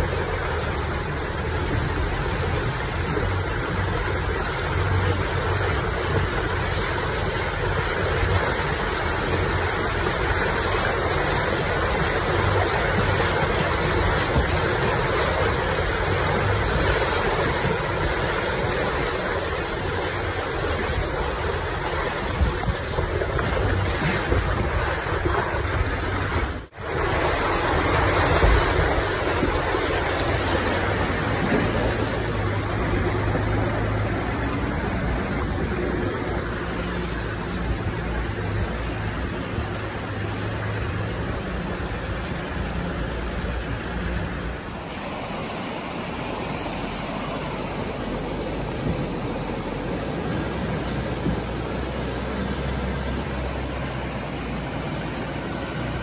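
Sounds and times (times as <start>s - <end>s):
low engine drone: 0.0s - 56.0s
rushing river water: 0.0s - 56.0s
tyres splashing: 0.0s - 56.0s.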